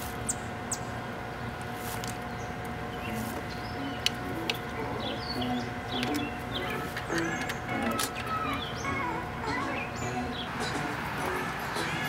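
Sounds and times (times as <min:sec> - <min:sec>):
background hum: 0:00.0 - 0:12.0
small birds chirping: 0:00.2 - 0:12.0.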